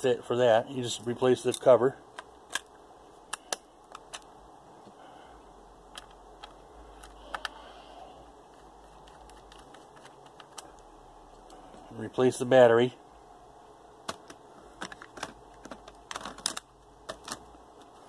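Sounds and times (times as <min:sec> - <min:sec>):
faint room noise: 0:00.0 - 0:18.0.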